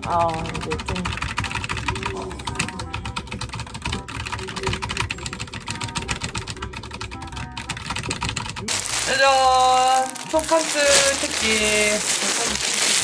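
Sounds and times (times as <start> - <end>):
rapid keyboard typing: 0.0 - 13.0.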